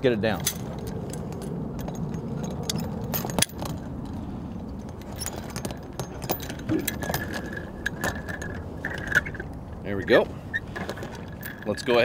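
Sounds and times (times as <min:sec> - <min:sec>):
steady low rumble: 0:00.0 - 0:12.0
metallic clinks of boat gear: 0:00.1 - 0:12.0.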